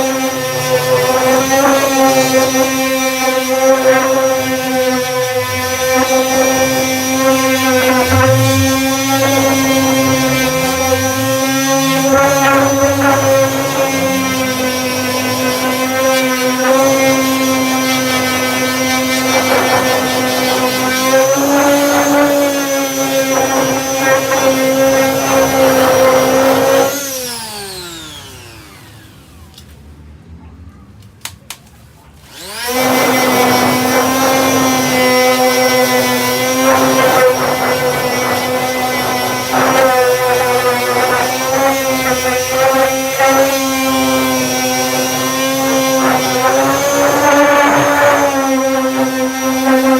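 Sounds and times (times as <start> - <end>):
power sander whining: 0.0 - 29.9, 32.2 - 49.9.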